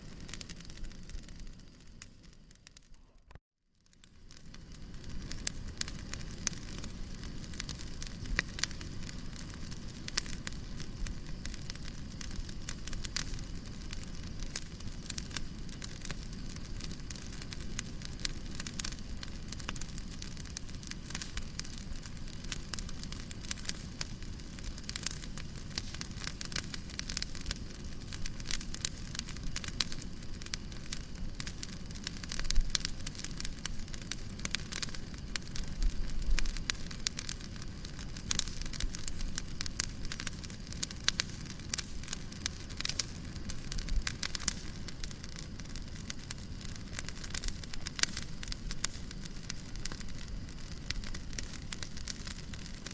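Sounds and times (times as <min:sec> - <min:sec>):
burning wood popping: 0:00.0 - 0:52.9
fire rumbling: 0:00.0 - 0:52.9.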